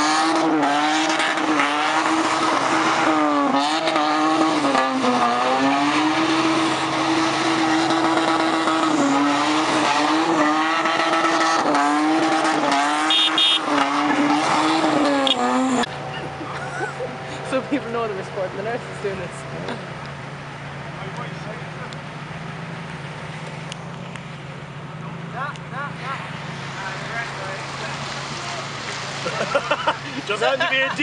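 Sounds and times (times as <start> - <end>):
car engine at high revs: 0.0 - 31.0.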